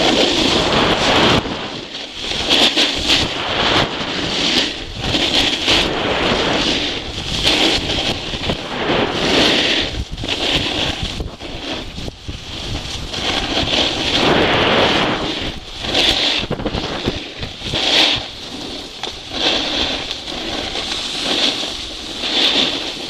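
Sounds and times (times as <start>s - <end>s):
snowboard scraping over snow: 0.0s - 23.0s
wind on microphone: 0.0s - 23.0s.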